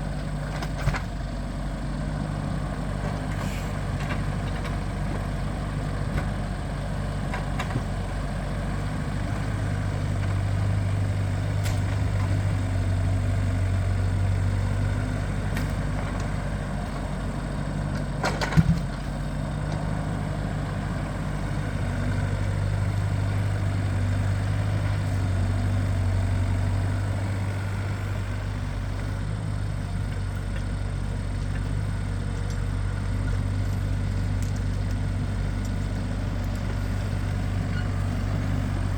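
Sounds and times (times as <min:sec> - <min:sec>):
heavy engine running: 0:00.0 - 0:38.9.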